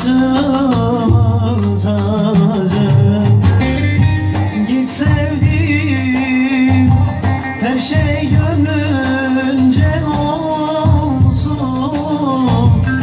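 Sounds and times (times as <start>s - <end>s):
man singing folk song: 0.0s - 13.0s.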